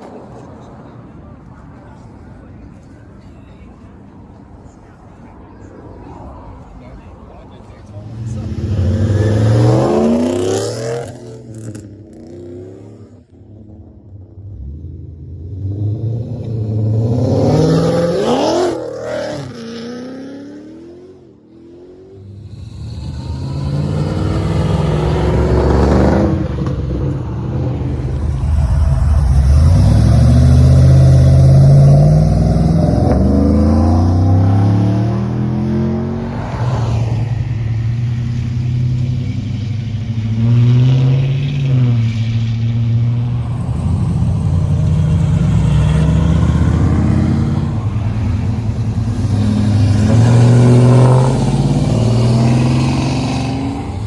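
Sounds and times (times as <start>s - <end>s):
car engine revving: 6.1s - 54.0s.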